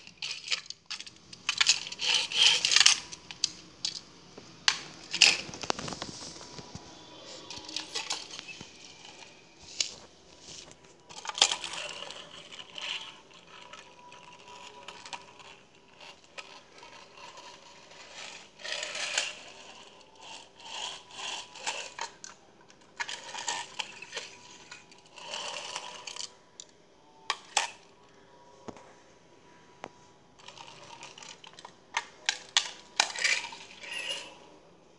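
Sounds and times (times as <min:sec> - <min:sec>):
toy train scraping and rattling: 0:00.0 - 0:04.0, 0:04.6 - 0:26.4, 0:27.3 - 0:27.8, 0:30.4 - 0:34.6.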